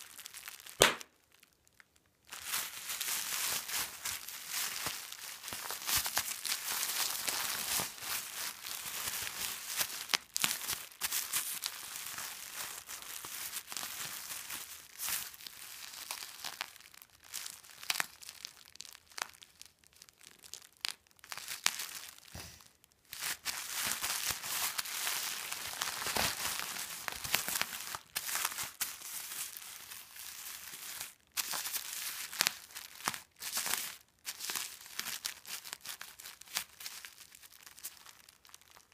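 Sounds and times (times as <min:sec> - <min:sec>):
bubble wrap crinkling: 0:00.0 - 0:38.9.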